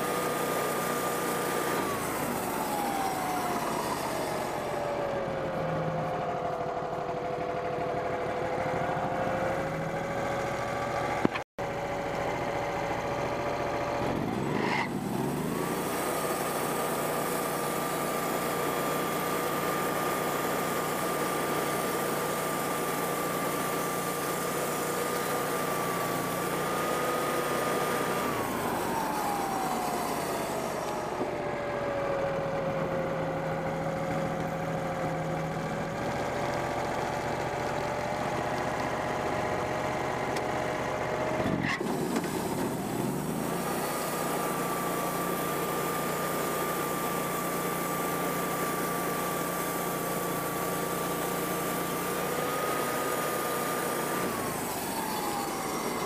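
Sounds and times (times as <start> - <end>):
band sawmill engine: 0.0 - 56.0.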